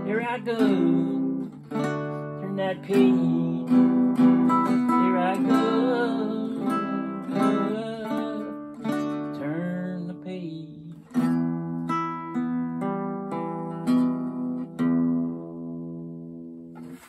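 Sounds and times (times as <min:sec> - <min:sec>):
acoustic guitar strumming and picking: 0:00.0 - 0:17.0.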